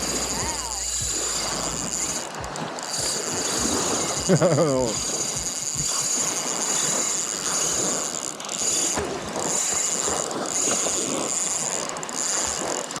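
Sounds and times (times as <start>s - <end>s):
fishing reel drag screaming: 0.0s - 13.0s.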